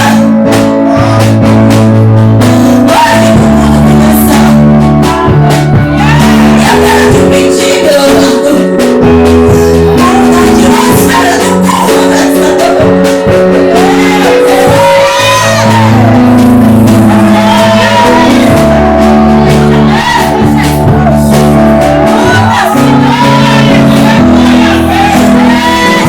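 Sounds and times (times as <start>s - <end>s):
band playing sustained chords: 0.0s - 26.0s
person singing: 2.7s - 26.0s.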